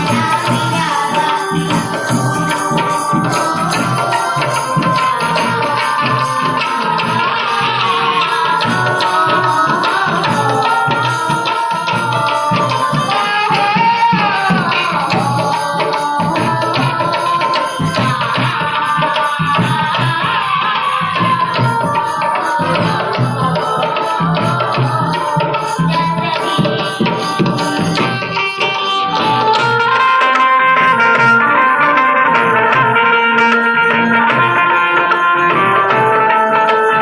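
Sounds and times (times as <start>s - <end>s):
tabla rhythm: 0.0s - 37.0s
wavering melody line: 0.0s - 37.0s.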